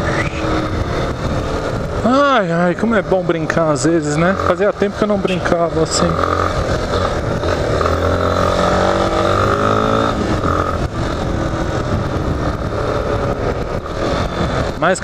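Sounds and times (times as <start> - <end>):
motorcycle engine: 0.0 - 15.0
wind noise: 0.0 - 15.0.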